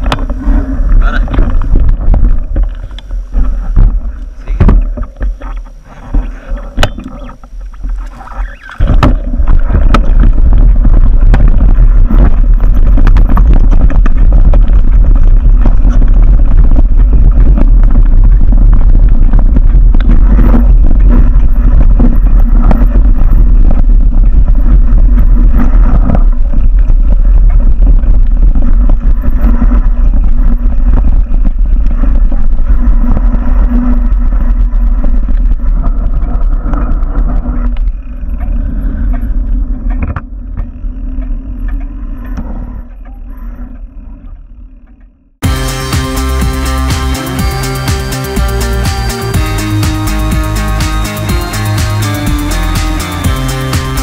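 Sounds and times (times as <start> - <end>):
wind on camera: 0.0 - 44.3
bike vibration rumble and rattle: 0.0 - 54.0.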